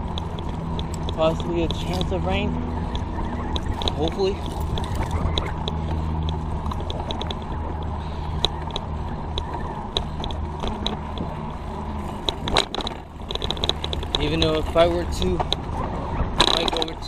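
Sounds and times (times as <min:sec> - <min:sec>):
bicycle drivetrain ticking: 0:00.0 - 0:17.0
low rumble: 0:00.0 - 0:17.0.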